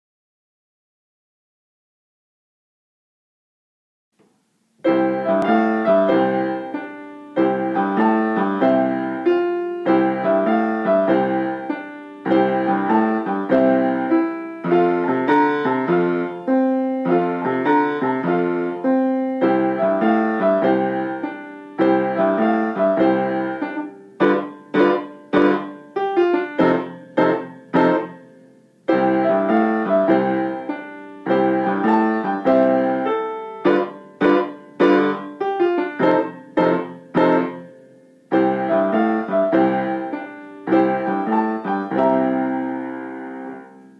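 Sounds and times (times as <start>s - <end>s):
piano duet: 4.7s - 43.9s.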